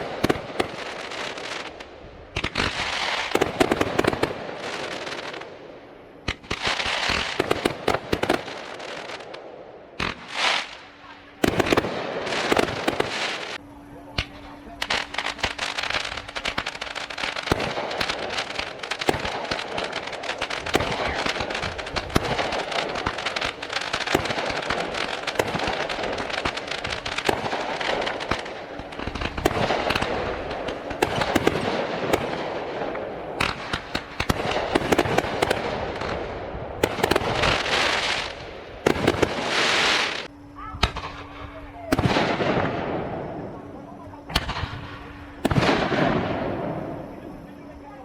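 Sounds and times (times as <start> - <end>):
hissing rush: 0.0 - 46.2
fireworks bangs and crackling: 0.0 - 48.0.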